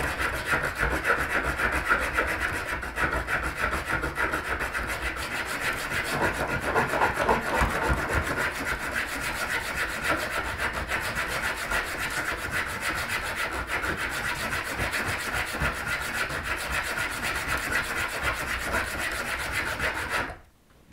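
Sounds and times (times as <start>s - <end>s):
hacksaw cutting metal: 0.0s - 20.4s.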